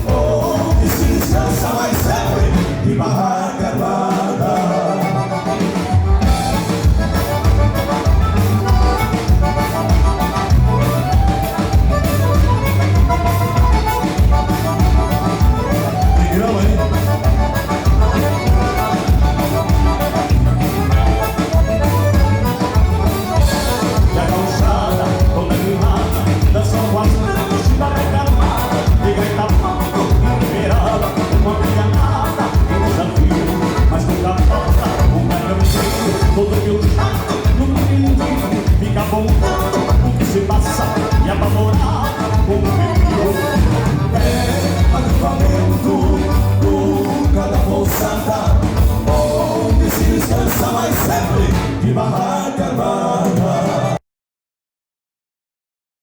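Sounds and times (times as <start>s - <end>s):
dance-band music with driving beat: 0.0s - 54.0s.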